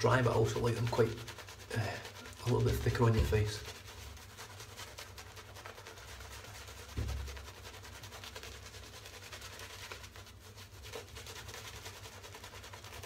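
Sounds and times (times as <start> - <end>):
shaving brush rubbing lather: 0.0 - 13.0.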